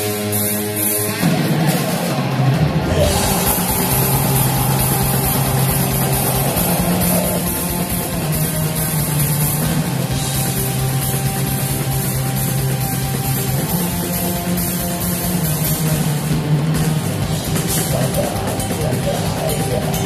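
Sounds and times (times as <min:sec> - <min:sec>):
distorted guitar chords: 0:00.0 - 0:20.0
drums: 0:00.0 - 0:20.0.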